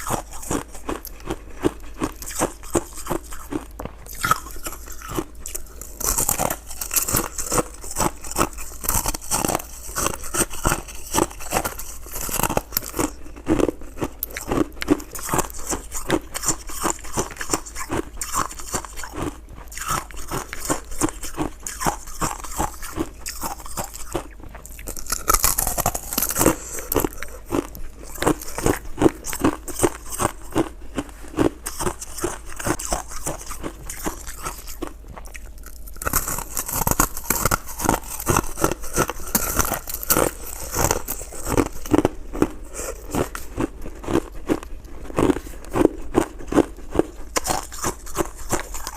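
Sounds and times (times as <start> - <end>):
chewing shaved ice: 0.0 - 48.9.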